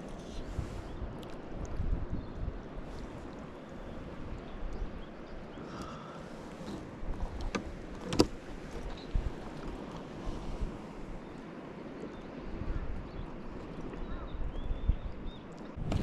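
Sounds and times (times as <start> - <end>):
water lapping around boat: 0.0 - 16.0
wind rumble on microphone: 0.0 - 16.0.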